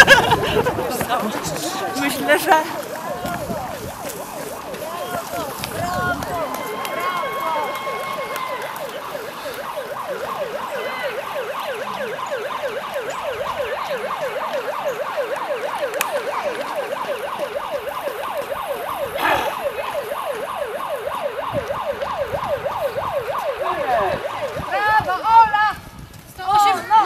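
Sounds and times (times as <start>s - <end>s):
siren yelping: 0.0s - 25.3s.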